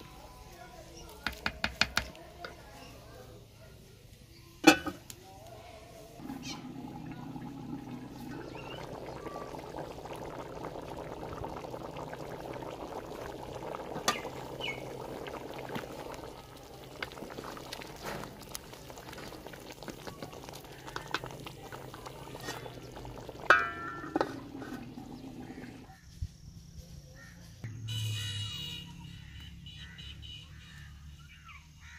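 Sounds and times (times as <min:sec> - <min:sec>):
rice and water boiling in pot: 0:00.0 - 0:26.0.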